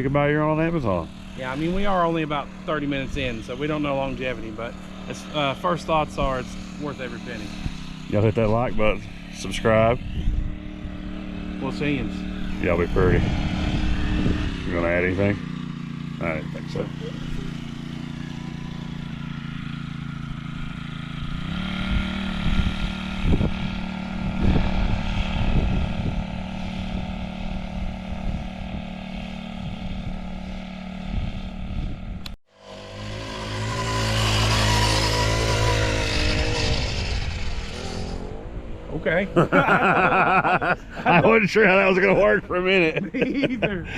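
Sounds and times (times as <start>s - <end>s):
mini bike engine running: 0.0s - 38.4s.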